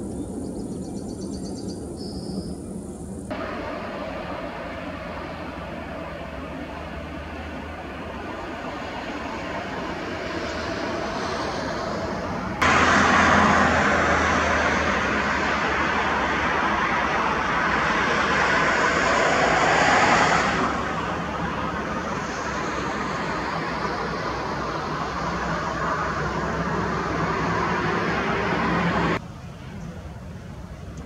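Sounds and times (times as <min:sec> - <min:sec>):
distant jet airliner engines: 0:00.0 - 0:31.0.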